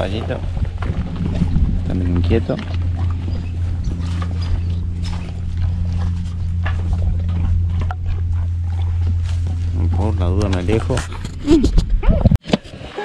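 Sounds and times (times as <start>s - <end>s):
horse moving about: 0.0s - 12.2s
steady low hum: 0.0s - 12.4s.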